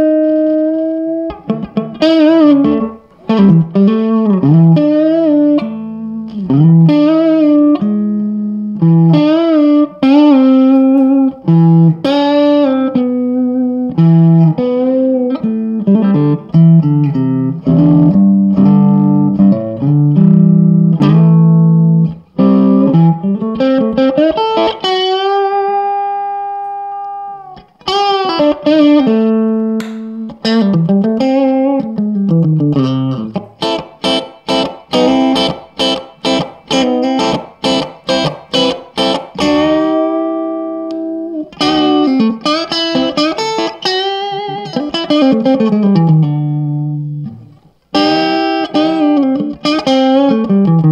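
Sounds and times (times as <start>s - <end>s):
overdriven electric guitar: 0.0s - 50.9s.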